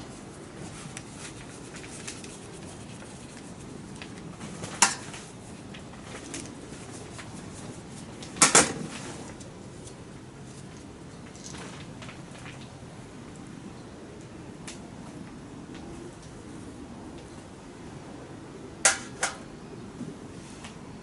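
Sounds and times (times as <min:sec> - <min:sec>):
low steady background hum: 0:00.0 - 0:21.0.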